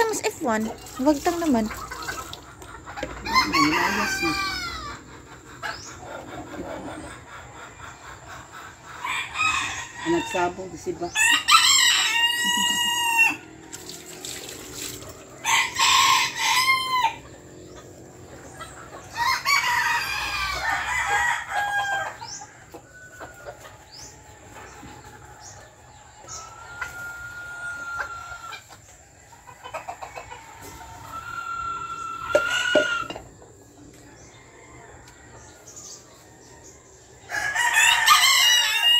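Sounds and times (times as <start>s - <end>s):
chickens clucking: 0.0s - 38.9s
roosters crowing: 1.6s - 38.9s.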